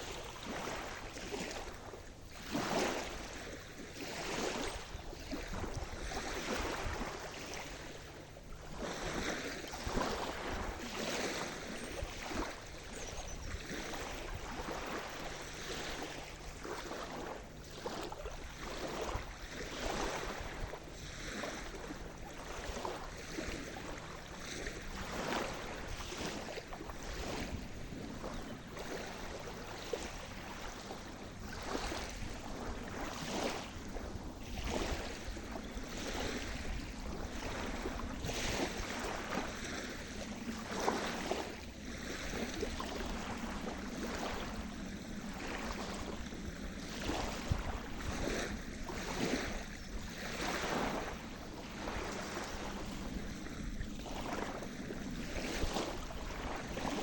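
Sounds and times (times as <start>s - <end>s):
small waves breaking: 0.0s - 57.0s.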